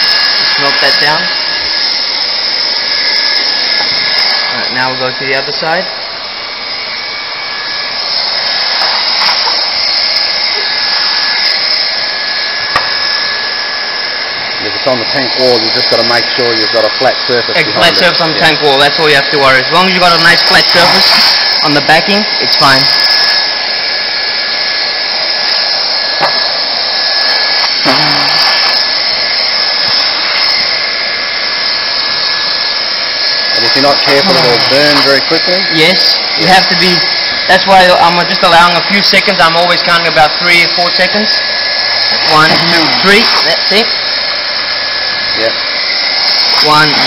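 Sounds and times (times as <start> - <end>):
faint high whine: 0.0 - 47.0
heat gun blowing hiss: 0.0 - 47.0.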